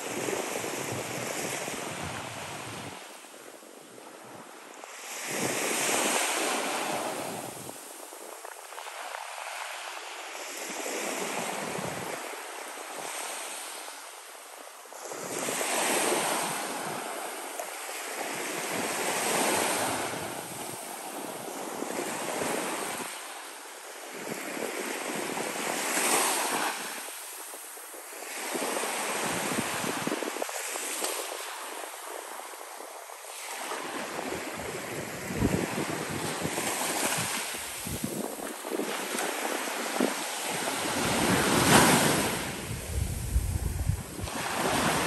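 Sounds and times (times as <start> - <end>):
small waves breaking on beach: 0.0 - 45.0.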